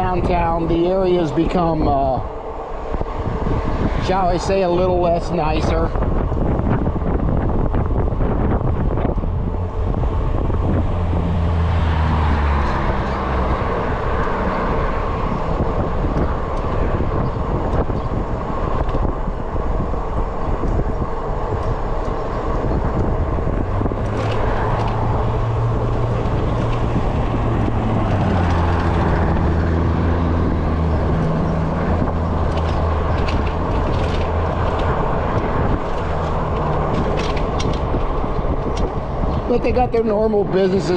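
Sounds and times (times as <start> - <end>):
bike road noise: 0.0 - 40.9
passing motor traffic hum: 0.0 - 40.9
wind rushing over microphone: 0.0 - 40.9.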